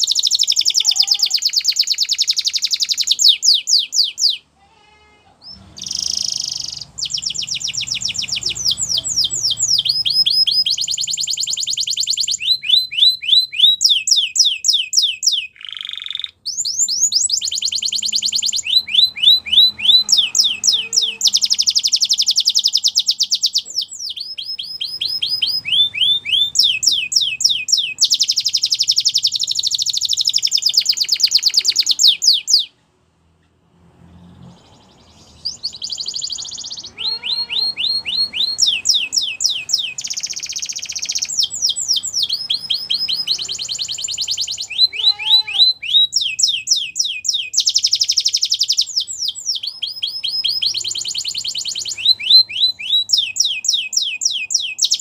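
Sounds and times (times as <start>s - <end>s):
canary singing rapid trills: 0.0s - 4.5s, 5.4s - 32.7s, 34.5s - 55.0s.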